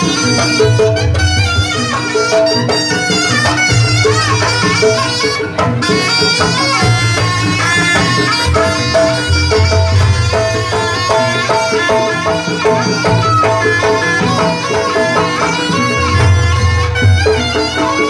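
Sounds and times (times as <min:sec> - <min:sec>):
percussion: 0:00.0 - 0:18.0
shawm playing reedy melody: 0:00.0 - 0:18.0.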